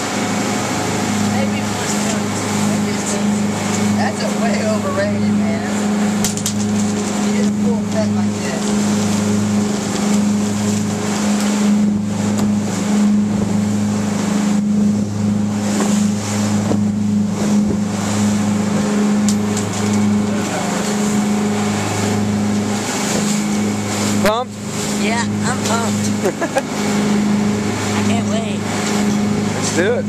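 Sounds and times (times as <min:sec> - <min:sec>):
boat engine droning: 0:00.0 - 0:30.0
water rushing past: 0:00.0 - 0:30.0.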